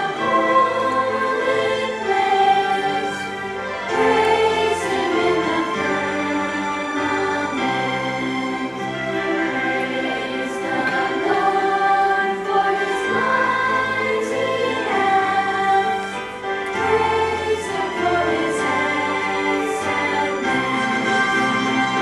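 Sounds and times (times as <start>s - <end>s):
choir singing: 0.0s - 22.0s
instrumental accompaniment: 0.0s - 22.0s.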